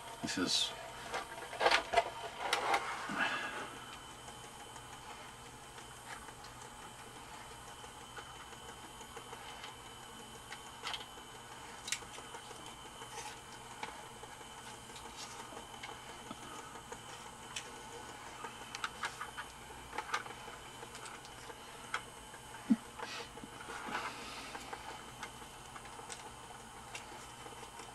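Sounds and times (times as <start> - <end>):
small motor and gears whining: 0.0 - 27.9.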